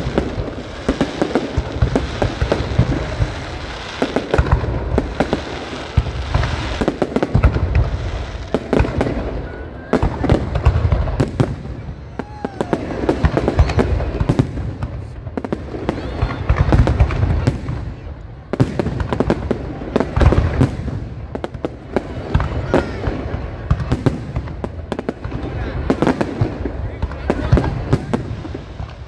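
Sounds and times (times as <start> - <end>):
sharp bangs and crackles: 0.0 - 29.0.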